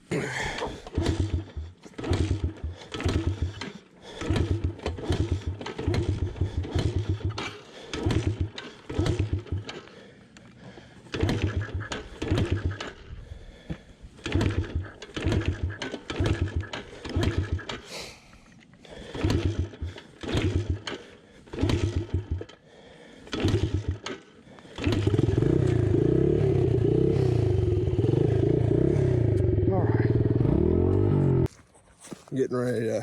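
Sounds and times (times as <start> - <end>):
engine running: 0.4 - 17.9, 18.5 - 31.5.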